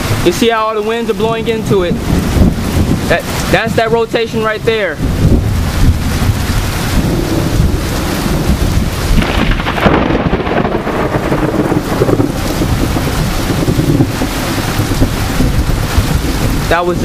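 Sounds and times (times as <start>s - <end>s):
gusting wind: 0.0s - 17.0s
heavy rain: 0.0s - 17.0s
thunder rumbling: 0.0s - 17.0s.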